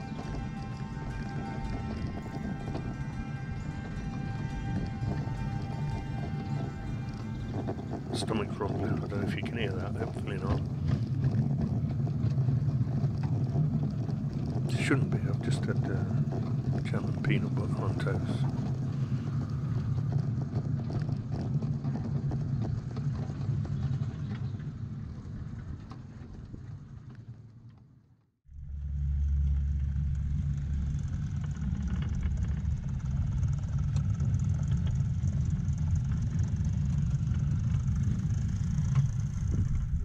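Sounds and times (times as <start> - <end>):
miniature train rumbling: 0.0 - 27.2, 28.6 - 40.0.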